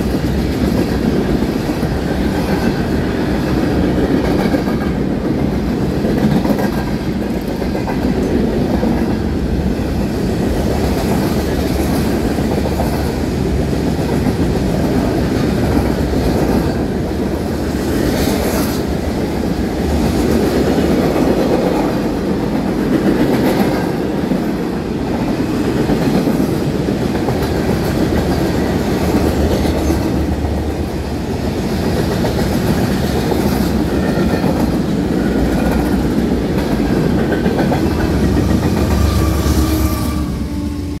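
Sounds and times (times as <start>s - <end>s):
clickety-clack over rail joints: 0.0s - 40.1s
freight train wheels rumbling: 0.0s - 41.0s.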